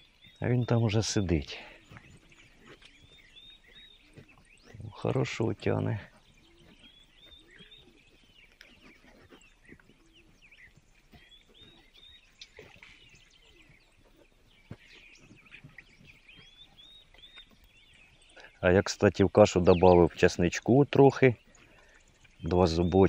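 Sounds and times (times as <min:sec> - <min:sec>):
small birds chirping: 0:00.0 - 0:23.0
soft ticks and rustles: 0:00.0 - 0:23.0.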